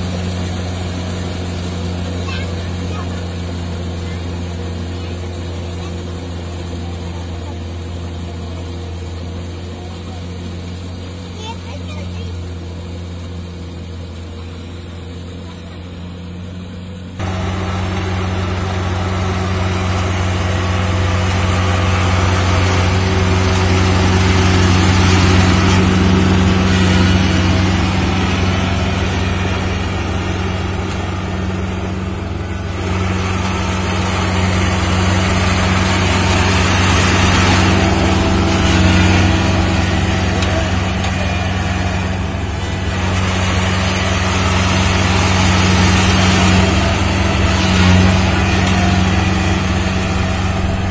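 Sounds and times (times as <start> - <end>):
combine harvester diesel engine: 0.0 - 50.9.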